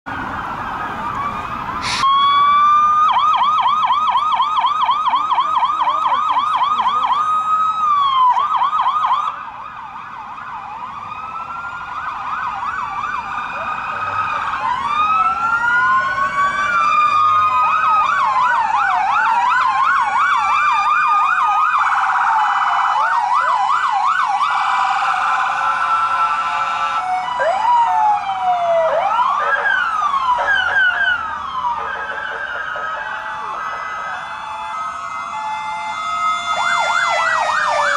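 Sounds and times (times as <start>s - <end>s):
police siren wails: 0.1s - 37.9s
police siren yelp: 0.1s - 37.9s.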